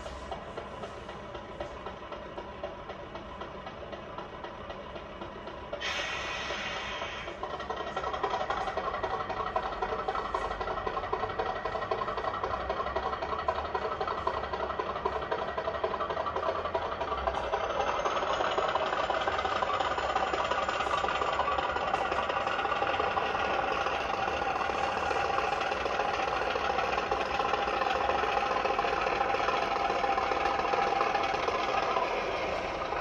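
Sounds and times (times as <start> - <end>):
diesel engine sound from speaker: 0.0 - 33.0.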